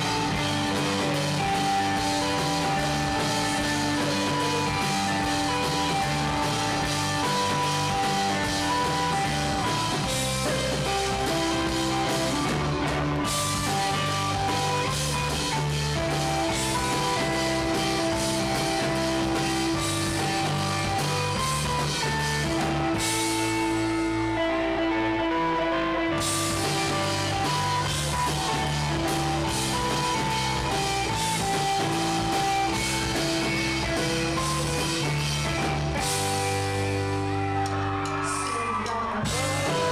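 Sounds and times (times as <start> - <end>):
electric guitars sustained notes: 0.0 - 39.9
live rock band playing: 0.0 - 39.9.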